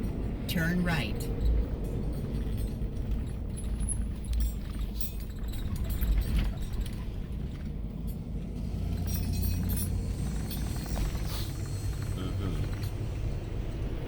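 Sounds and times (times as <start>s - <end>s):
car rumble on dirt road: 0.0s - 14.0s
rattles and clicks: 1.3s - 14.0s.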